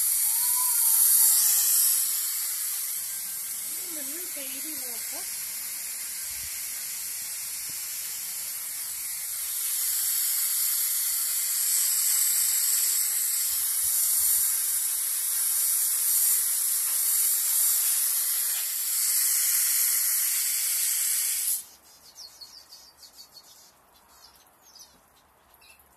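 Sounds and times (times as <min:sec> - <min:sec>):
water spray hissing: 0:00.0 - 0:21.8.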